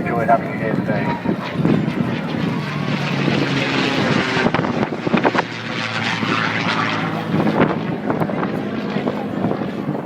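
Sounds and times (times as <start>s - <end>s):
aircraft engine drone: 0.0s - 10.0s.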